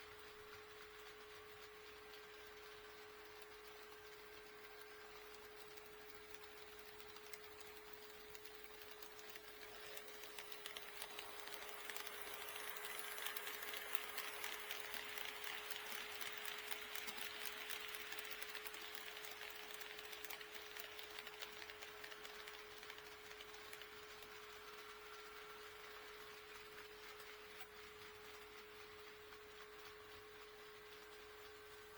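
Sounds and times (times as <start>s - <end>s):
model train rolling on track: 0.0s - 31.9s.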